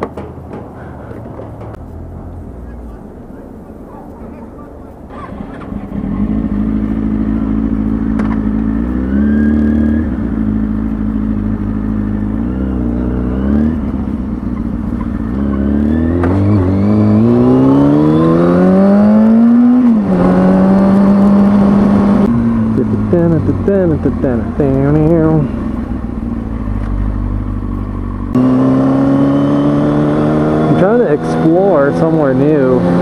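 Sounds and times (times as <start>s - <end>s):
motorcycle engine revving: 4.2s - 33.0s.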